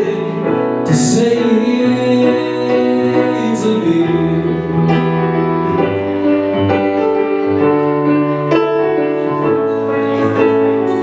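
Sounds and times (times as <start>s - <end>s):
piano playing sustained chords: 0.0s - 11.0s.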